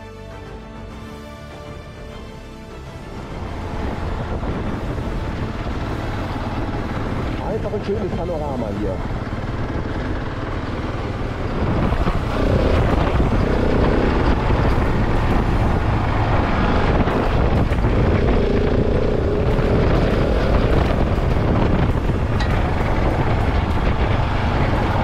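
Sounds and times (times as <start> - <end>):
wind buffeting microphone: 3.0 - 25.0
motorcycle engine running: 3.2 - 25.0.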